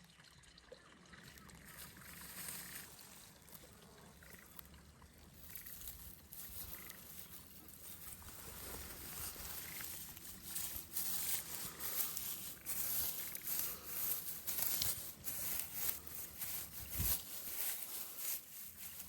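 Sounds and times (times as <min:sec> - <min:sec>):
rustling and crinkling: 0:01.6 - 0:19.0.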